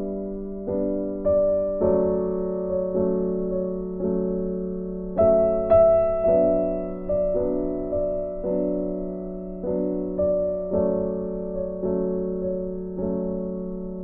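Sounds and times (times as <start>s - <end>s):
slow keyboard chords: 0.0s - 14.0s.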